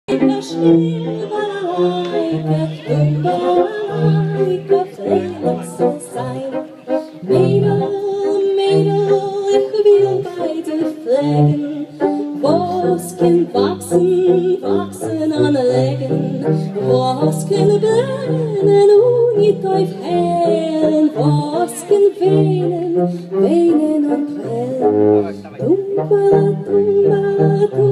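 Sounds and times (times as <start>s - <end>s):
instrumental accompaniment with bass: 0.1s - 27.9s
woman singing into a microphone: 0.1s - 27.9s.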